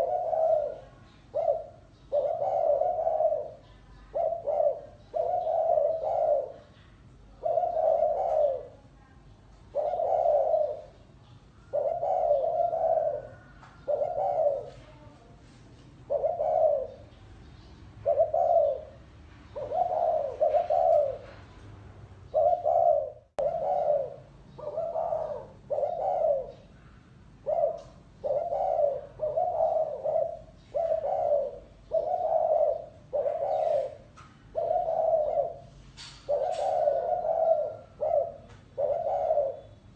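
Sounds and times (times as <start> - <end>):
dove cooing: 0.0 - 9.0, 9.6 - 15.2, 16.0 - 17.2, 17.9 - 21.5, 22.3 - 39.9.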